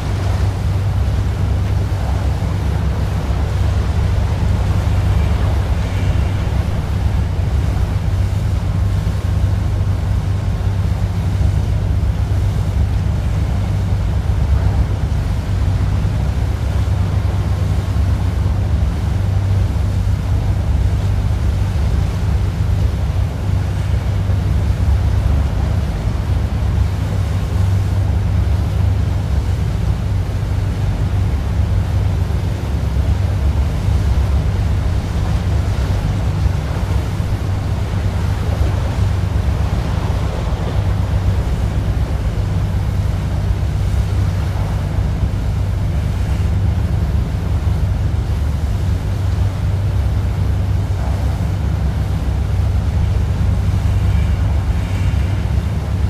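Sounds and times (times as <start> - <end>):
wind buffeting microphone: 0.0 - 53.9
boat engine drone: 0.0 - 56.0
water rushing past hull: 0.0 - 56.0.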